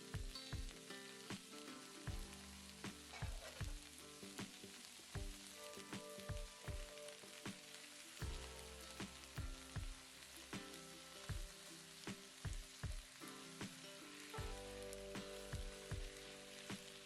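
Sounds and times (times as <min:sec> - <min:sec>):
soft background music: 0:00.0 - 0:17.0
vegetables sizzling in oil: 0:00.0 - 0:17.0.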